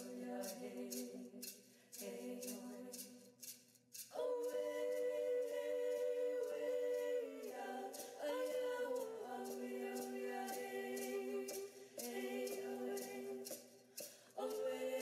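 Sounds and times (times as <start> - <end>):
voices singing in harmony: 0.0 - 3.5, 4.1 - 15.0.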